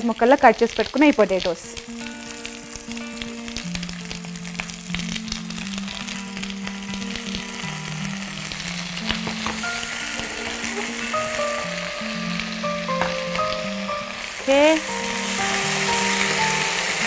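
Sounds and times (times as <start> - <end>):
soft background music: 0.0 - 17.0
vegetables sizzling in a pan: 0.0 - 17.0.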